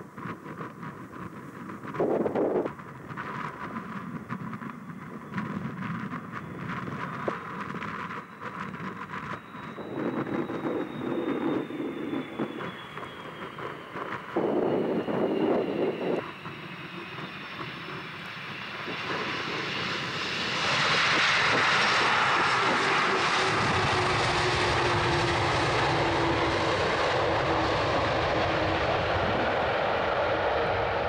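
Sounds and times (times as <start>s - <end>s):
jet airliner engine noise: 0.0s - 31.0s
high jet whine: 0.9s - 31.0s.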